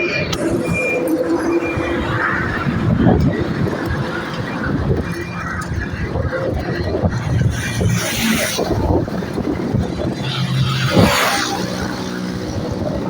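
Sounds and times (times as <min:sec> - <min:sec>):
low rumble of traffic: 0:00.0 - 0:13.0
vehicles passing close by: 0:00.0 - 0:13.0
wind: 0:00.0 - 0:13.0.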